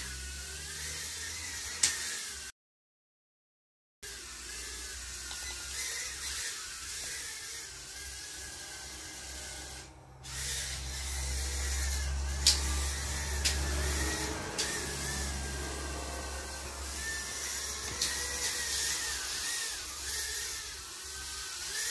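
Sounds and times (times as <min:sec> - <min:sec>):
quadcopter motors whining: 0:00.0 - 0:02.5, 0:04.0 - 0:21.9.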